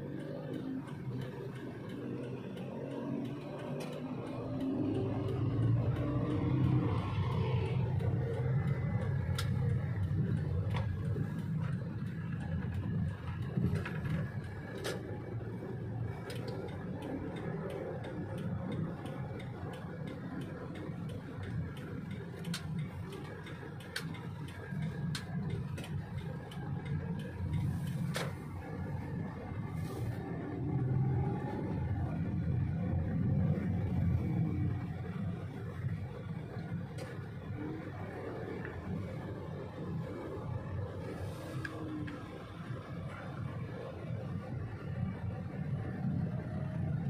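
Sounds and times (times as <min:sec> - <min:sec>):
car engine and tyres rumbling: 0:00.0 - 0:47.0.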